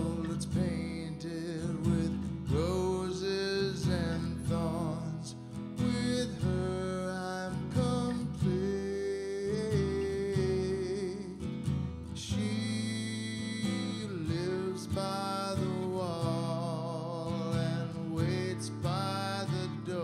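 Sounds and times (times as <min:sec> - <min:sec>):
acoustic guitar: 0:00.0 - 0:20.0.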